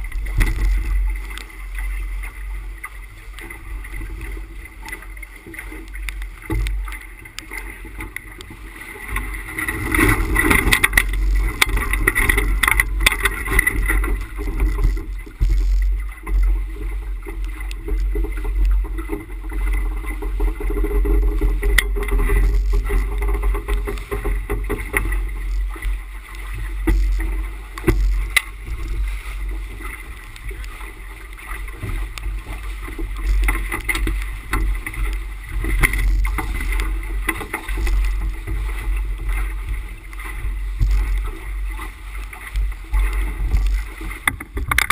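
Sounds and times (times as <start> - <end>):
water rushing past boat bow: 0.0 - 44.9.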